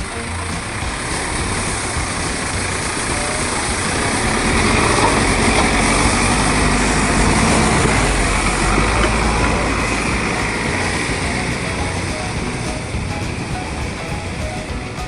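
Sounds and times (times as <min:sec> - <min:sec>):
van engine droning: 0:00.0 - 0:15.0.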